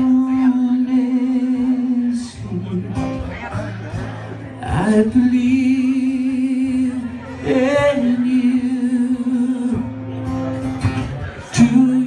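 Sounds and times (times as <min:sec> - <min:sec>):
man singing with vibrato: 0:00.0 - 0:10.4, 0:11.4 - 0:12.0
quiet guitar: 0:00.0 - 0:12.0.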